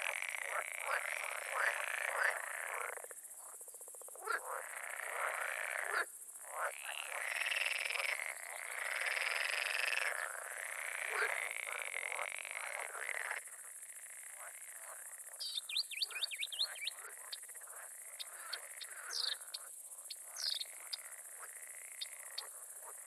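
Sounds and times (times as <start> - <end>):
frogs croaking in chorus: 0.0 - 23.0.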